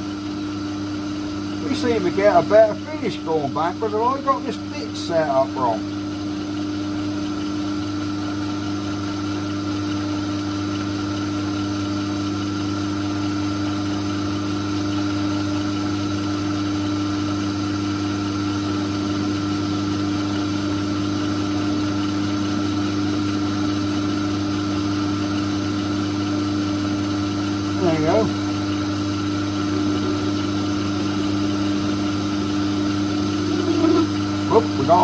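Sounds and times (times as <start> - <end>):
metal lathe motor hum: 0.0 - 35.0.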